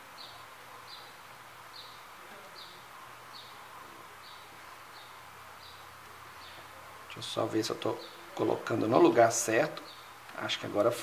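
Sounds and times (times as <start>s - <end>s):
bird chirping: 0.0s - 10.9s
low steady hiss: 0.0s - 11.0s.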